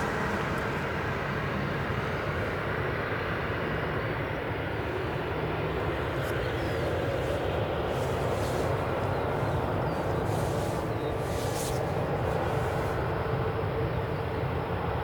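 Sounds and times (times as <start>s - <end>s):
distant jet engines rumbling: 0.0s - 15.0s.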